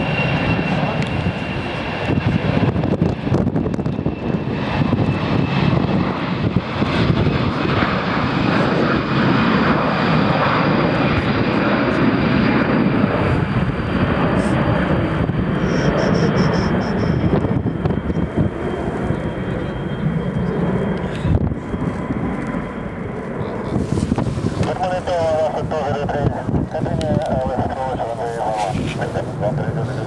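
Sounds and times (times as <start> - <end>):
jet engines at takeoff thrust: 0.0 - 30.0.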